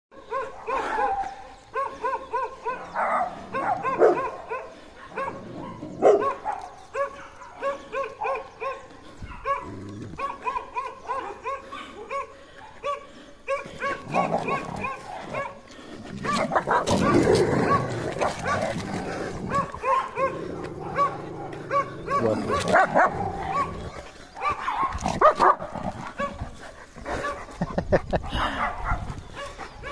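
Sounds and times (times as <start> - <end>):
dogs barking: 0.1 - 29.9.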